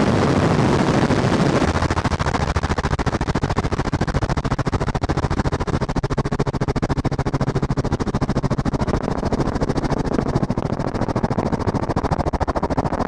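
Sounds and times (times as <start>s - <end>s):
heavy wind noise: 0.0s - 13.0s
helicopter rotor chop: 0.0s - 13.0s.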